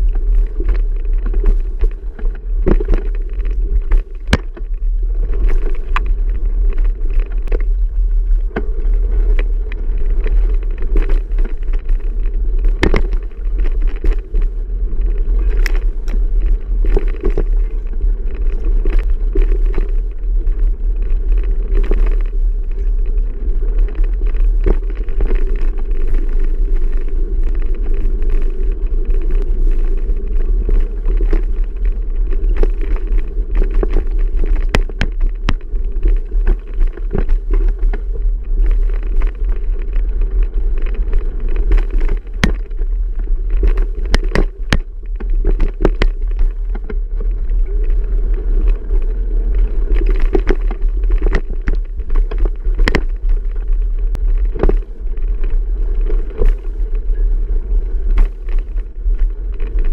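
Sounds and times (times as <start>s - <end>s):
bicycle clicks and rattles: 0.0s - 59.9s
wind rumble on microphone: 0.0s - 59.9s.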